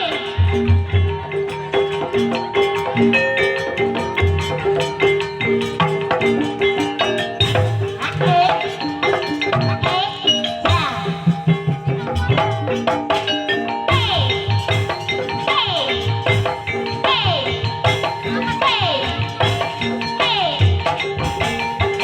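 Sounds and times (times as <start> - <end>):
struck metallophone notes: 0.0 - 22.0.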